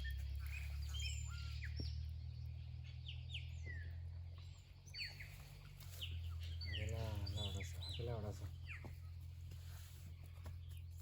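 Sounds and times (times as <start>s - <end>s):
low steady rumble: 0.0s - 11.0s
wild birds chirping: 0.0s - 11.0s.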